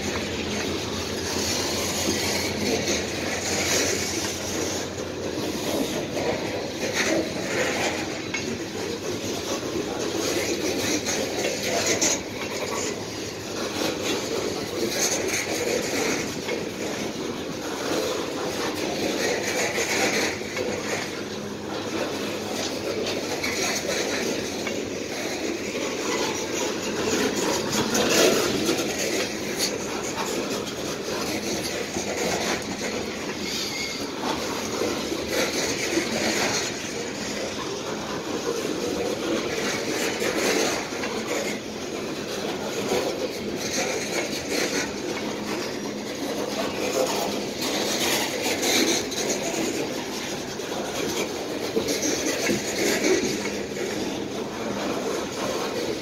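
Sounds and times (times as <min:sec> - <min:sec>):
train cars clacking and clanking: 0:00.0 - 0:56.0
train wheels rumbling on rails: 0:00.0 - 0:56.0.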